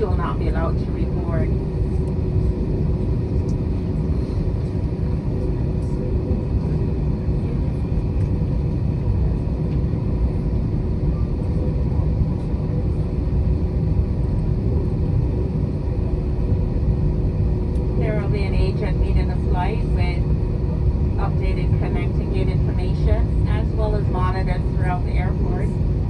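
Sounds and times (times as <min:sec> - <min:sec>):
aircraft cabin rumble: 0:00.0 - 0:26.0
faint steady hum: 0:00.0 - 0:26.0.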